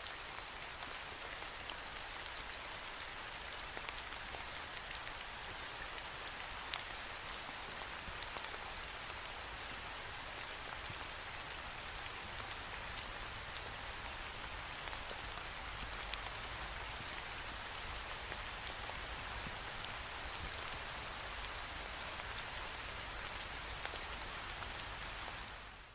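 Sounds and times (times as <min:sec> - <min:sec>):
rain on a window pane: 0:00.0 - 0:25.9.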